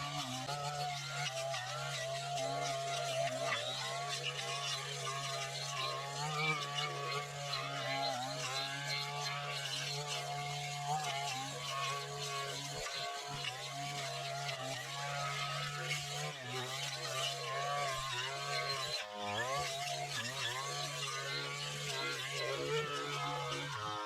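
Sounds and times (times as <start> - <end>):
brush cutter engine running: 0.0 - 24.0.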